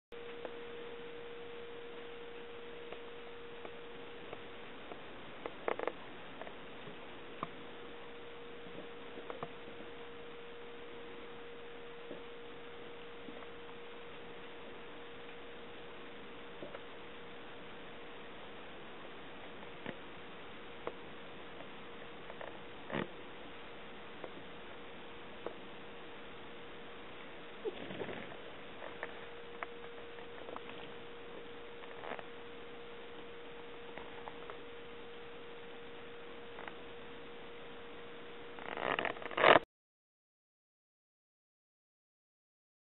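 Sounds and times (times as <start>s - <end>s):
mid-pitched hum: 0.1s - 39.7s
steady hiss: 0.2s - 39.6s.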